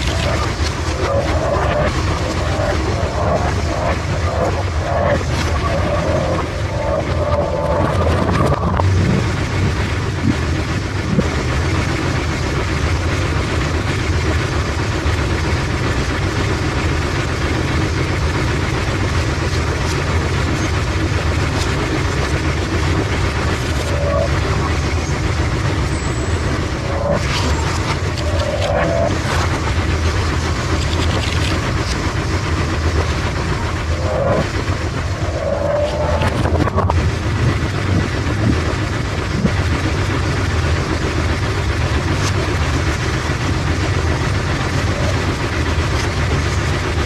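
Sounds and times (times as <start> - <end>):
pinsetter machinery rumbling: 0.0 - 47.0.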